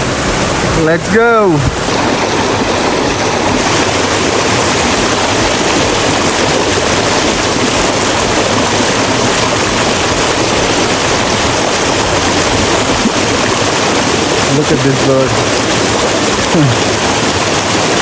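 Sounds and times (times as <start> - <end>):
loud rush of water: 0.0 - 18.0.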